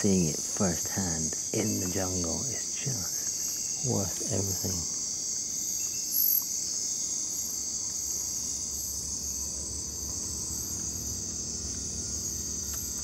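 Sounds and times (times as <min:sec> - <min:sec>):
high insect chirps: 0:00.0 - 0:13.0
insect chorus shrilling: 0:00.0 - 0:13.0.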